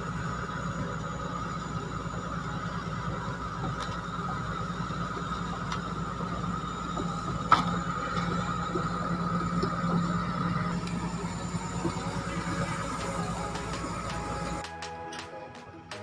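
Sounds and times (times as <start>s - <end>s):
continuous high whine: 0.0s - 16.0s
excavator diesel engine running: 0.0s - 16.0s.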